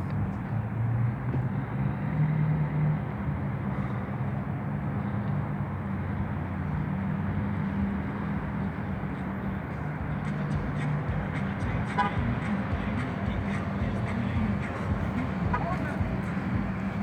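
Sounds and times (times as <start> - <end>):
road traffic noise: 0.0 - 17.0
vehicle engine humming: 0.0 - 17.0.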